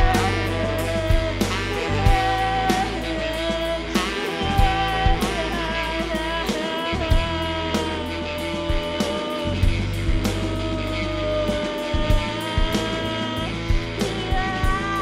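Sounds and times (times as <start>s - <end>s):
bass line: 0.0s - 15.0s
electric guitar sliding lead note: 0.0s - 15.0s.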